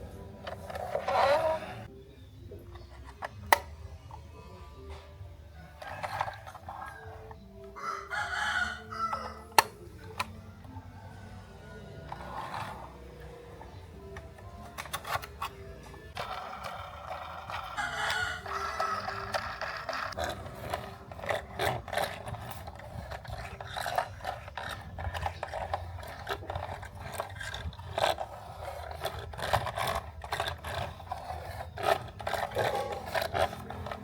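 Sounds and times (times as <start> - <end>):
hard objects scraping and clicking: 0.0 - 4.3, 4.9 - 34.0.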